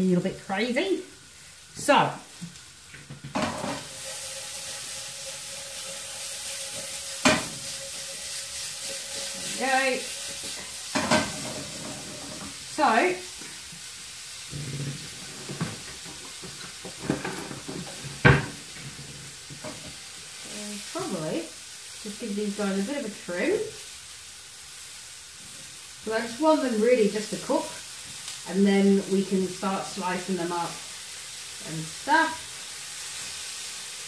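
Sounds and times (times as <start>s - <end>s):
sausages sizzling in a frying pan: 0.0s - 34.0s.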